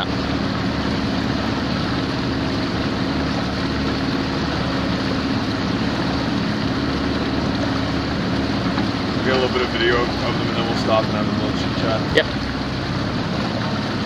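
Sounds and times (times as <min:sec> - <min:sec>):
outboard engine running: 0:00.0 - 0:14.0.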